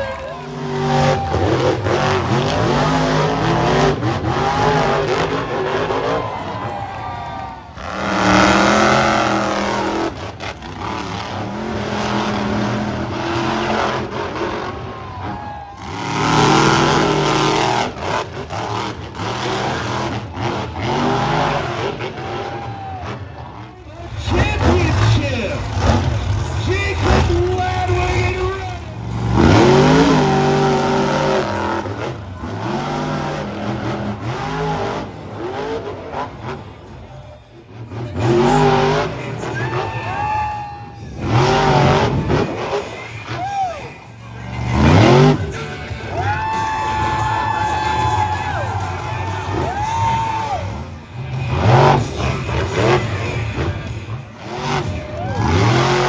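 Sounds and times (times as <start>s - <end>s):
truck engine at high revs: 0.0s - 56.0s.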